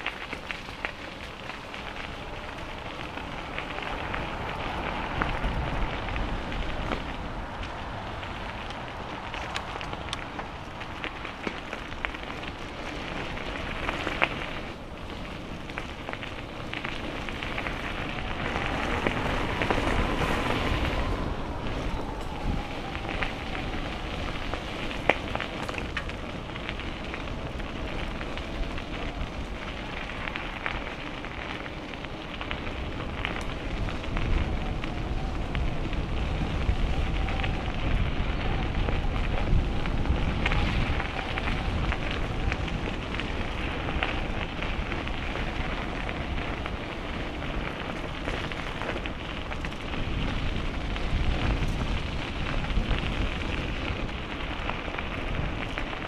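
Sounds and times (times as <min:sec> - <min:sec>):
bicycle tyre clicks and rattles: 0:00.0 - 0:56.0
wind rumbling on microphone: 0:00.0 - 0:56.0.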